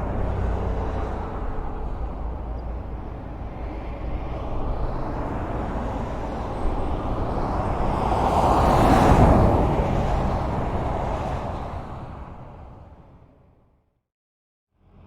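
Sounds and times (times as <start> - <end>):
vehicle approaching: 0.0 - 13.2
highway traffic rumble: 0.0 - 13.8.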